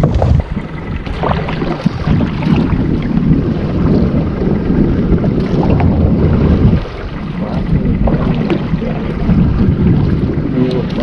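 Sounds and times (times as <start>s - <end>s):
water around boat: 0.0s - 11.0s
wind buffeting microphone: 0.0s - 11.0s.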